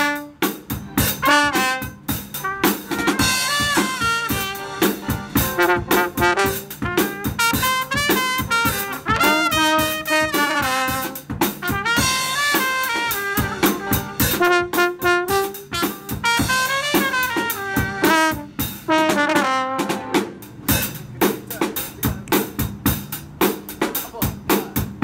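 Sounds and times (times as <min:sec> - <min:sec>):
trumpet and baritone horn melody: 0:00.0 - 0:20.5
drum kit playing: 0:00.0 - 0:25.0.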